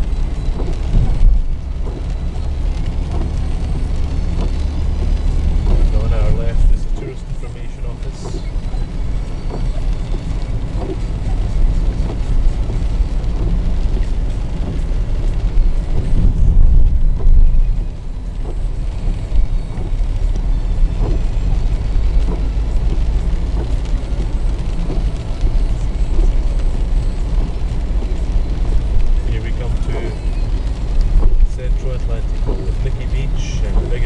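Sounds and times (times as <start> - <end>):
car road and engine rumble: 0.0 - 34.0.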